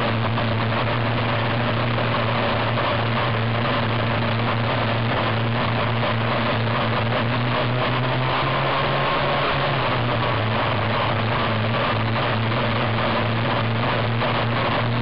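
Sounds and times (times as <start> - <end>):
two-stroke boat engine running: 0.0 - 15.0.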